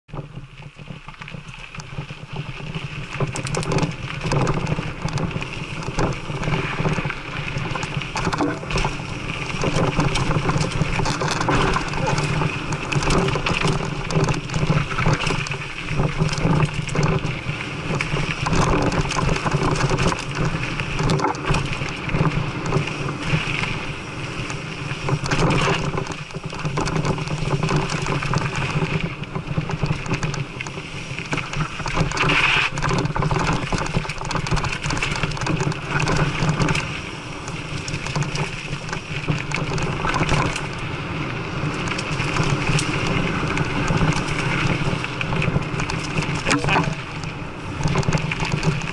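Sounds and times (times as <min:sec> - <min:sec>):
bike rattling over bumps: 0:00.1 - 0:48.9
bike tyres on dirt: 0:00.1 - 0:48.9.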